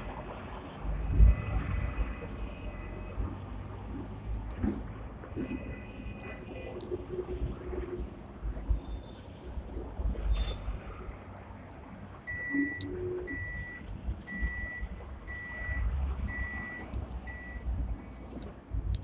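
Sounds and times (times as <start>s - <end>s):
tram running rumble: 0.0s - 19.0s.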